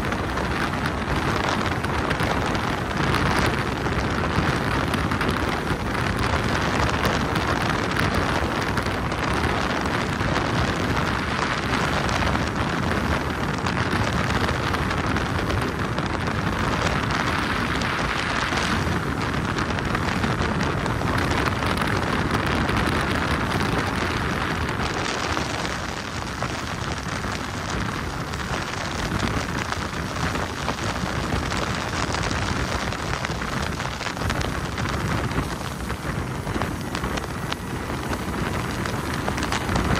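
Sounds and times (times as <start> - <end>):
motorboat water noise: 0.0 - 39.9
wind buffeting microphone: 0.0 - 39.9.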